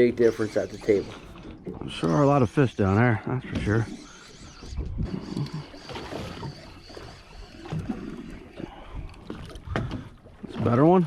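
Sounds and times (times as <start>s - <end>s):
wind and water rumbling: 0.0s - 11.0s.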